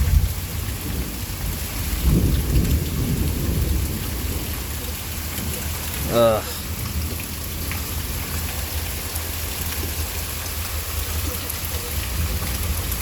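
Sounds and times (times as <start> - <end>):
distant thunder rumbling: 0.0 - 13.0
steady rain: 0.0 - 13.0.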